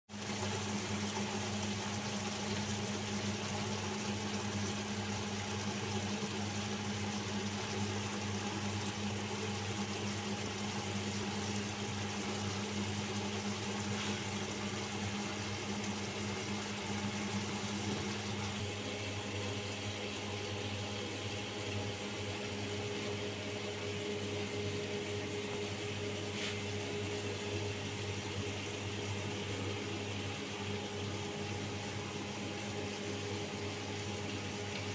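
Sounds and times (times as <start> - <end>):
steady machine hum: 0.1 - 34.9.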